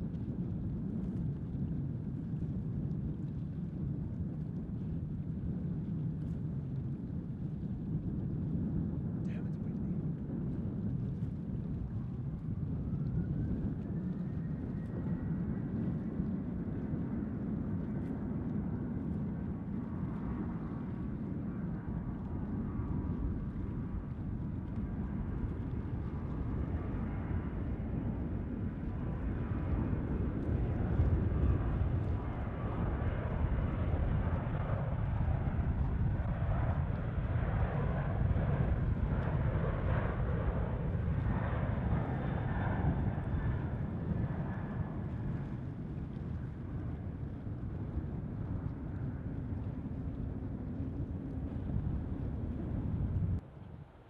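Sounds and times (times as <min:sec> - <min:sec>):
jet engines at takeoff thrust: 0:00.0 - 0:54.0.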